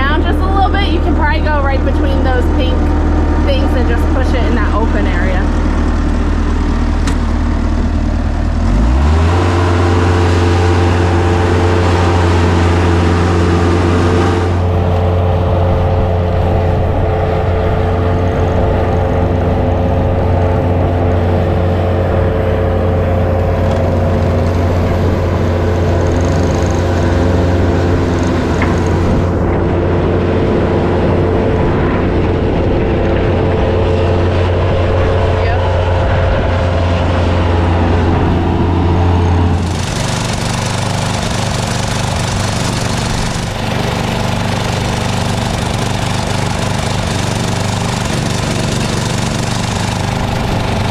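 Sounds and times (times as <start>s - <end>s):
vehicle engine revving: 0.0s - 50.9s.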